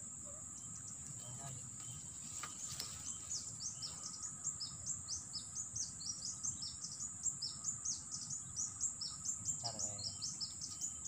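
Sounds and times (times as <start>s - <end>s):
bird chirping rapidly: 0.6s - 11.0s.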